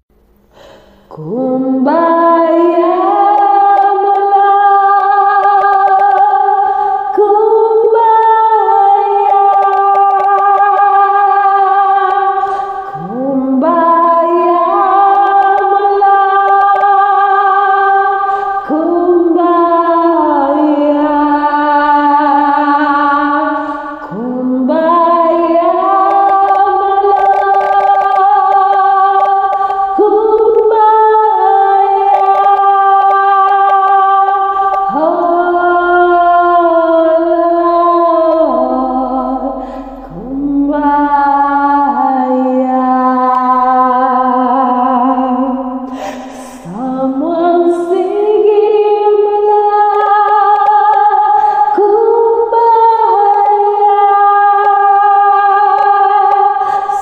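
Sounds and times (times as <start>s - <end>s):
woman singing unaccompanied: 1.1s - 57.0s.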